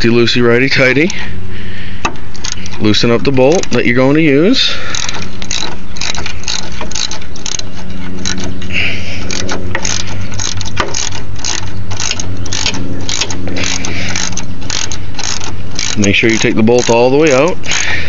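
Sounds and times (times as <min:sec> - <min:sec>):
steady low hum: 0:00.0 - 0:18.0
ratchet wrench clicking: 0:02.0 - 0:04.2, 0:04.9 - 0:18.0.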